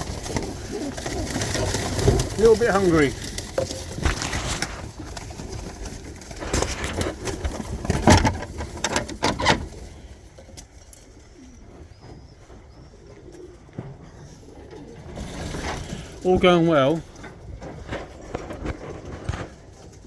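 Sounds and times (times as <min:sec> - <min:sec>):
loud rustling and clattering: 0:00.0 - 0:11.1, 0:14.8 - 0:20.0
pigeons cooing and calling: 0:00.0 - 0:20.0.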